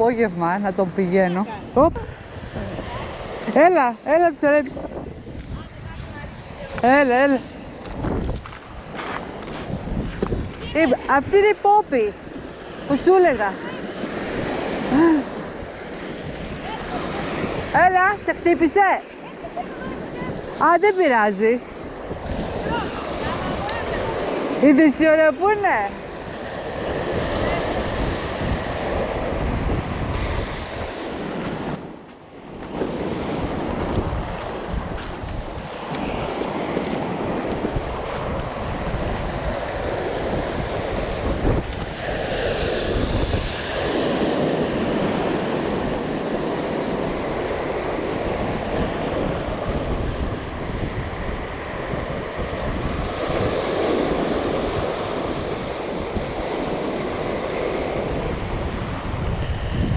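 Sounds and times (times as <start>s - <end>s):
wind rumbling on microphone: 0.0s - 59.9s
waves washing up pebble beach: 2.1s - 59.9s.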